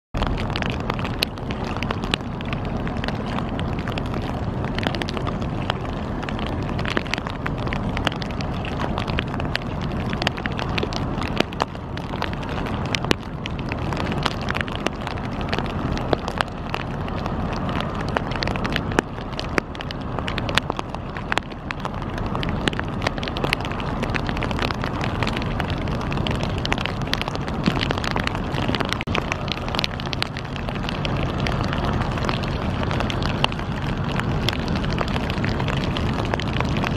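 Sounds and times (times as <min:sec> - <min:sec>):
wind buffeting microphone: 0:00.2 - 0:36.9.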